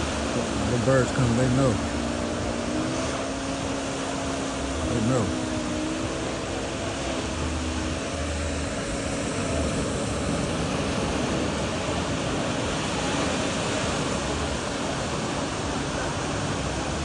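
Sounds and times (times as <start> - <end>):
surf rushing: 0.0 - 17.0
wind on shore: 0.0 - 17.0
wind rumbling on microphone: 0.0 - 17.0.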